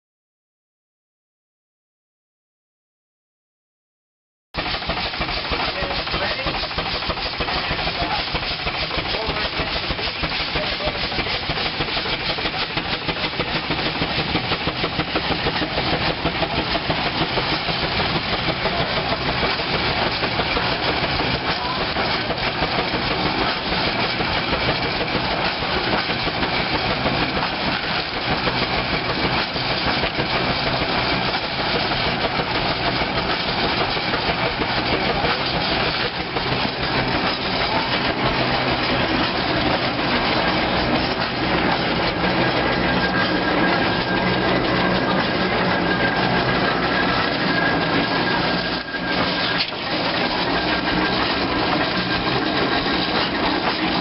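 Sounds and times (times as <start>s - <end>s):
steam engine clattering: 4.6s - 54.0s
steam hissing: 4.6s - 54.0s.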